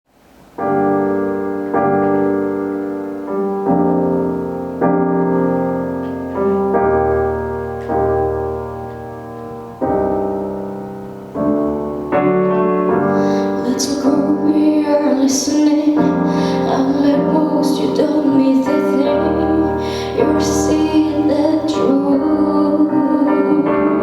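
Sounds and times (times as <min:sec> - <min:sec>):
slow piano chords: 0:00.1 - 0:24.0.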